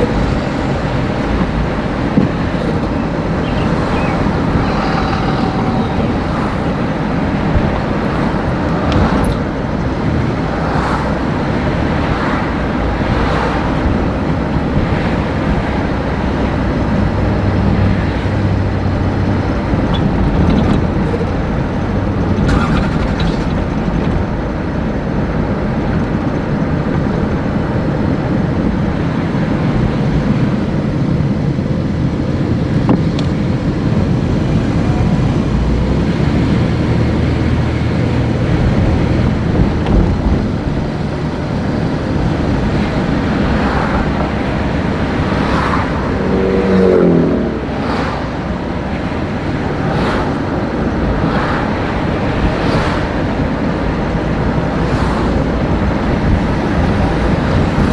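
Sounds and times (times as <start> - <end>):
traffic rumble: 0.0 - 57.9.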